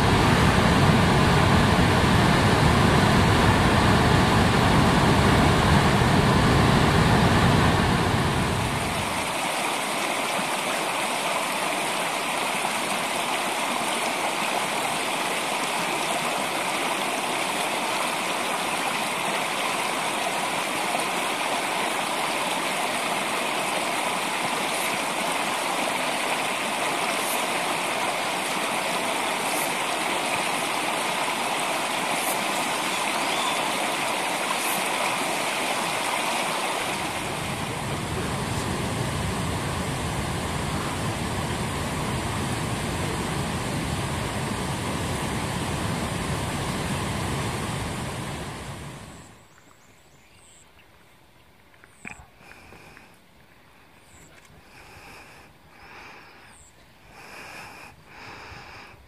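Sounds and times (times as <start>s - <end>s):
running water rushing: 0.0s - 49.6s.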